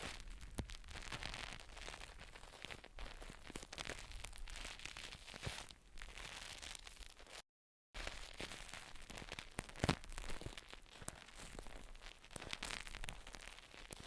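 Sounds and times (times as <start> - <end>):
crackling and scratching: 0.0 - 7.4, 8.0 - 14.0.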